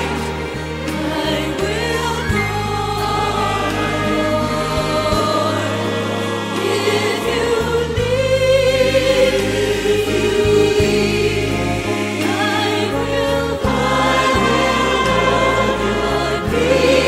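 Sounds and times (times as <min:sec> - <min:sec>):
choir singing a hymn: 0:00.0 - 0:17.0
musical backing: 0:00.0 - 0:17.0.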